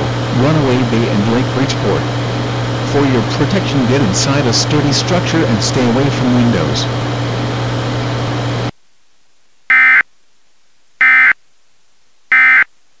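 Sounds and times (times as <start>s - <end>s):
steady hiss with low hum: 0.0s - 13.0s.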